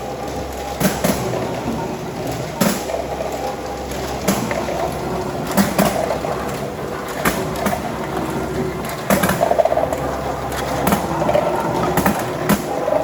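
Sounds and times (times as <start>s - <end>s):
counting machine humming and rattling: 0.0s - 13.0s.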